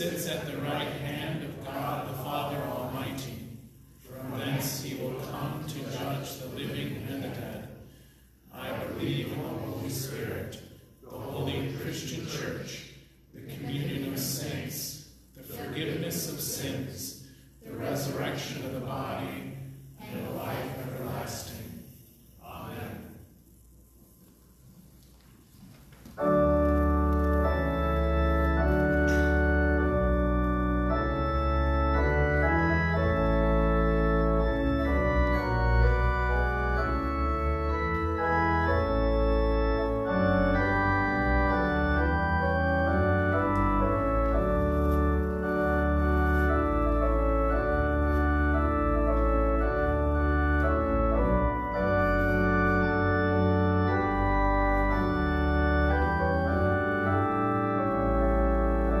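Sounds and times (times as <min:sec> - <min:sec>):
church organ chords: 0:00.0 - 0:23.2, 0:26.1 - 0:59.0.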